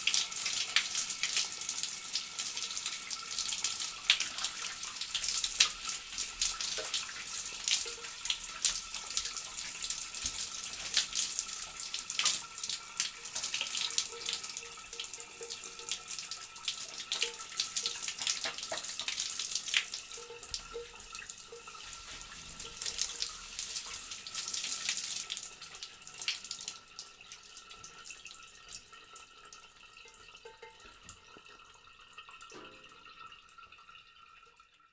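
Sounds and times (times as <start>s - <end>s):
water trickling and dripping: 0.0s - 34.9s.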